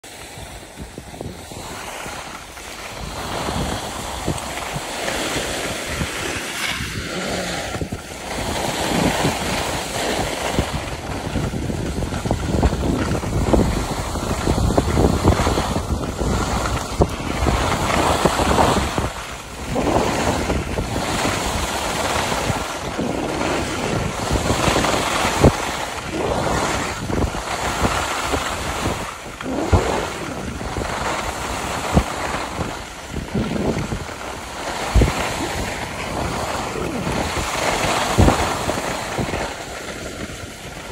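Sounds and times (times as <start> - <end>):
skis scraping over snow: 0.0 - 40.9
wind buffeting microphone: 0.0 - 40.9.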